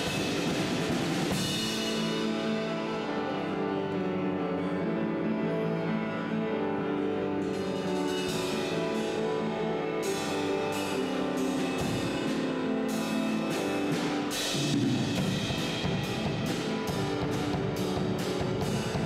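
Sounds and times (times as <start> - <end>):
instrumental ensemble chords: 0.0 - 19.0.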